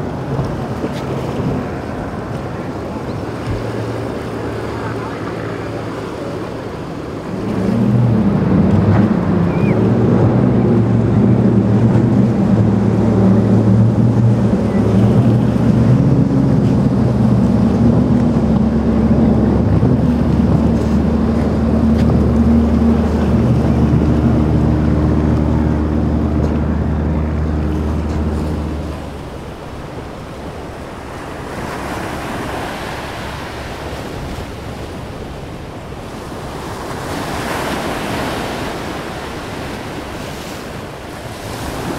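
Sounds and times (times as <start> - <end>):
motorboat engine drone: 0.0 - 41.9
rushing water: 0.0 - 41.9
wind: 0.0 - 41.9.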